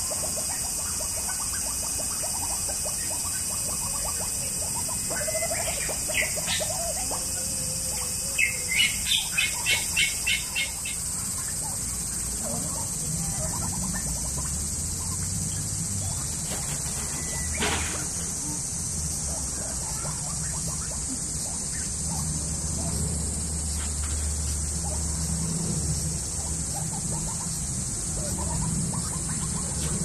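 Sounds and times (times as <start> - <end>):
bird chirping: 0.0 - 25.2
steady high hiss: 0.0 - 30.0.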